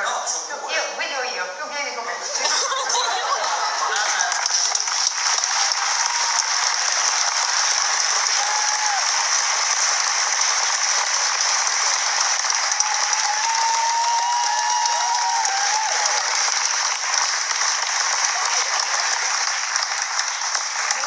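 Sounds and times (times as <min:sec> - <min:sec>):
audience applauding: 0:02.6 - 0:21.0.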